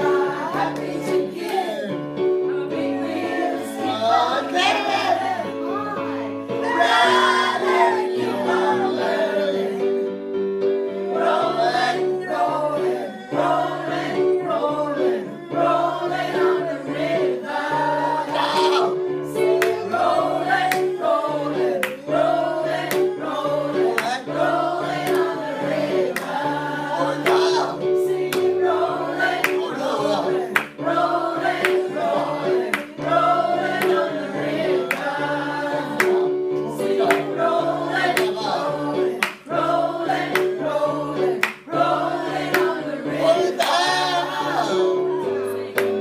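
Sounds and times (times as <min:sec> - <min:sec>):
mixed choir singing: 0:00.0 - 0:46.0.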